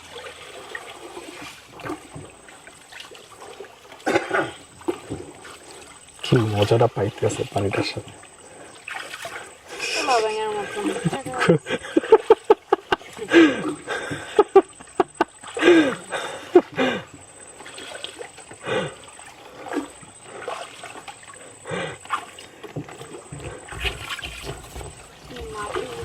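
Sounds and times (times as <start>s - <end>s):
water splashing: 0.0s - 26.0s.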